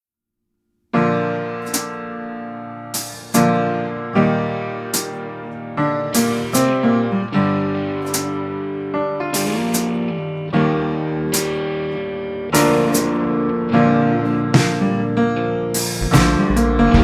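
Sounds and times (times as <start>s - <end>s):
electric piano chords: 1.0s - 17.0s.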